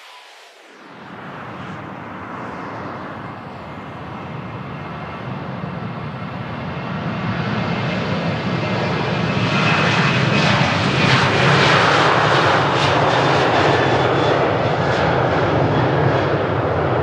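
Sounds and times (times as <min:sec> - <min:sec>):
airplane engine roar: 0:00.0 - 0:17.0.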